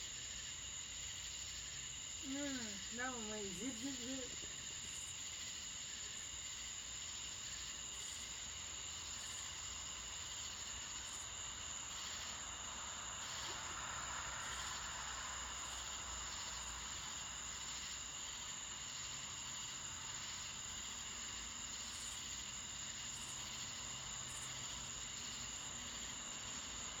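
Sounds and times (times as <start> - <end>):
crickets and insects chirping: 0.0 - 27.0.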